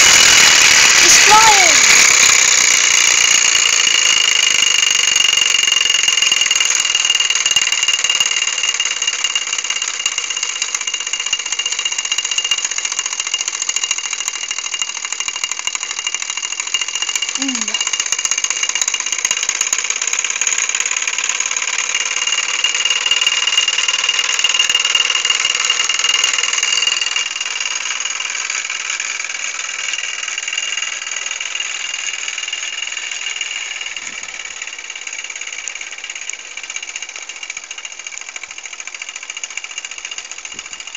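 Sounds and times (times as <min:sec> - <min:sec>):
toy steam engine buzzing rattle: 0:00.0 - 0:40.9.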